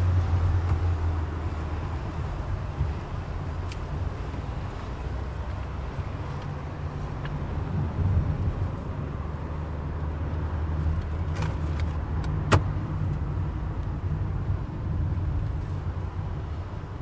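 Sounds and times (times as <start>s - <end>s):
engine and road noise in car: 0.0s - 17.0s.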